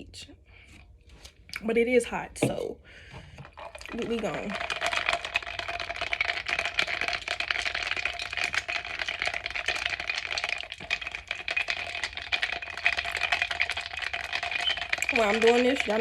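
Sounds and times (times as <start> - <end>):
cola fizzing with ice rattling: 2.4 - 16.0.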